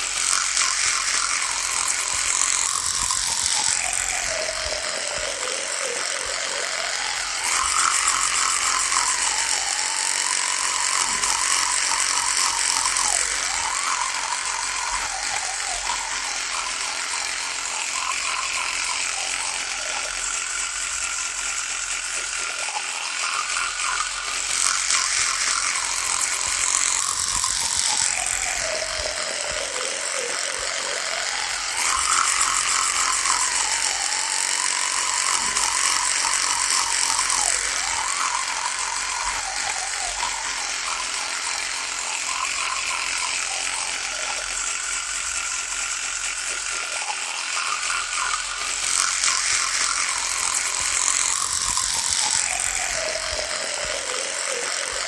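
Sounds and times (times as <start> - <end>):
electric toothbrush buzzing: 0.0 - 55.0.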